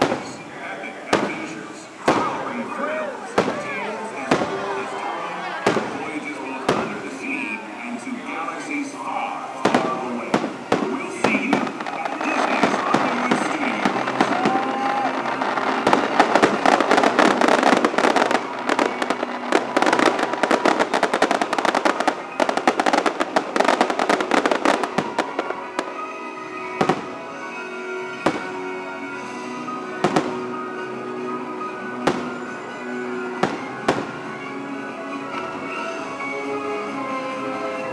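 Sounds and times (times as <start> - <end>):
fireworks bursting and crackling: 0.0 - 34.6.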